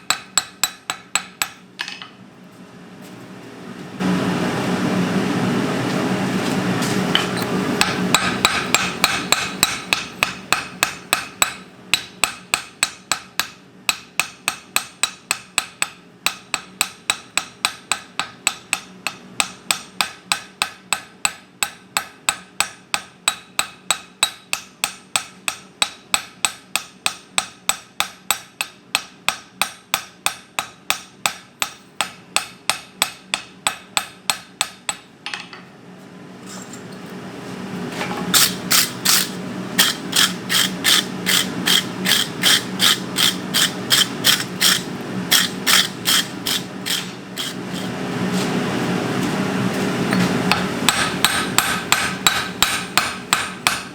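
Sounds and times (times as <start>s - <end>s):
hammer striking steel on anvil: 0.0s - 2.1s, 7.2s - 35.6s, 38.4s - 47.9s, 50.5s - 53.9s.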